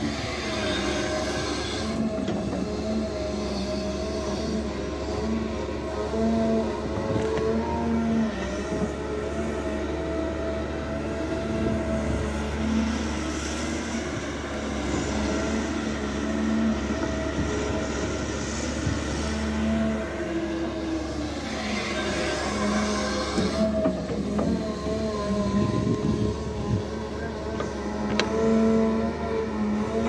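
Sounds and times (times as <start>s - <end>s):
excavator diesel engine droning: 0.0s - 30.0s.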